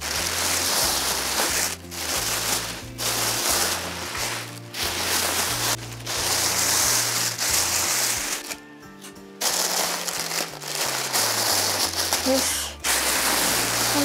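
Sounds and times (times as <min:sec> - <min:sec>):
background music with bass line: 0:00.0 - 0:14.0
bubble wrap crinkling: 0:00.0 - 0:14.0.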